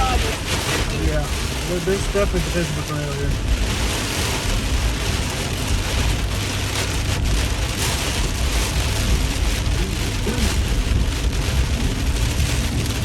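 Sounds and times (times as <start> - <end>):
heavy rain pelting car: 0.0 - 13.0
tyres and engine rumble: 0.0 - 13.0.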